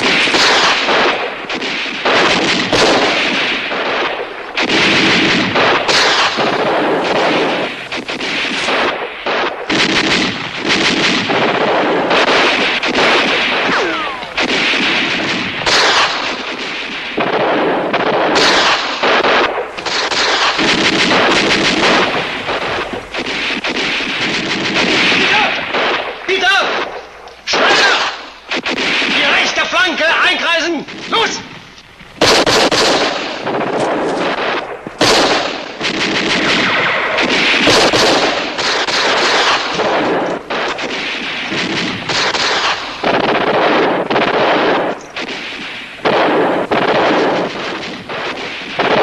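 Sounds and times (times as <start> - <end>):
rapid rifle shots: 0.0 - 49.0.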